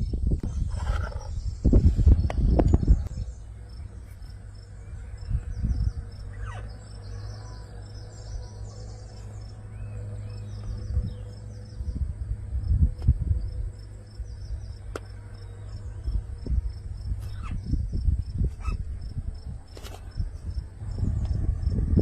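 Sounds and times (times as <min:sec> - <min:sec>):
insects chirping: 0:00.0 - 0:22.0
steady low hum: 0:00.0 - 0:22.0.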